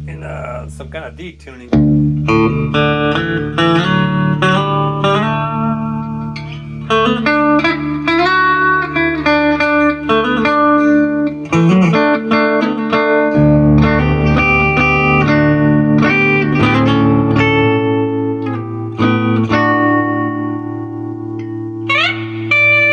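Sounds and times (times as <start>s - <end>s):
electric guitar: 1.7s - 22.9s.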